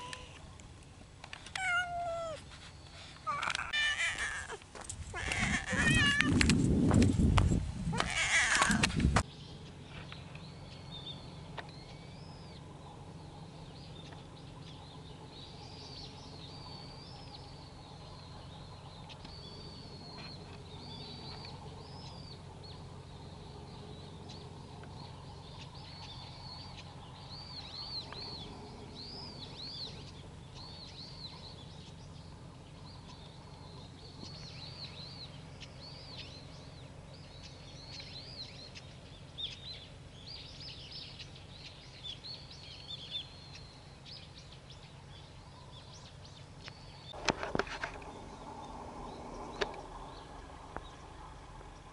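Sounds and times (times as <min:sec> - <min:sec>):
small birds chirping: 0:00.0 - 0:51.9
steady low hum: 0:00.0 - 0:51.9.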